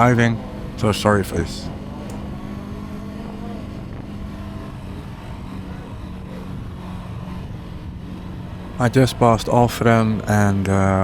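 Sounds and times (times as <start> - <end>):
low wind rumble: 0.0 - 11.0
motorcycle engine humming: 0.0 - 11.0.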